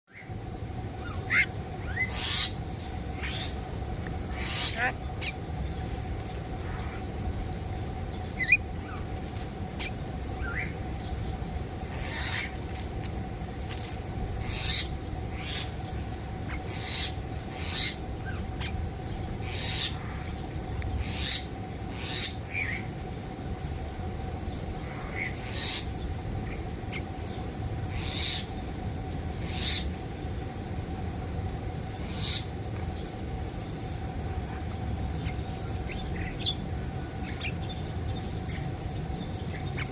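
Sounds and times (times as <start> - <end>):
steady background hum: 0.0 - 39.9
birds calling: 0.1 - 39.9.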